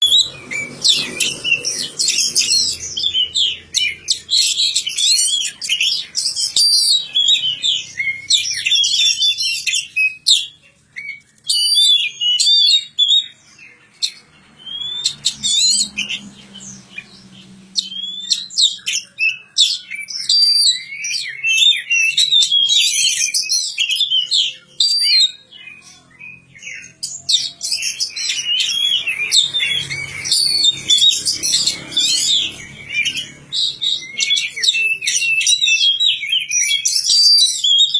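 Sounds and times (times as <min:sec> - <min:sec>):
bird song of whistles and chirps: 0:00.0 - 0:37.9.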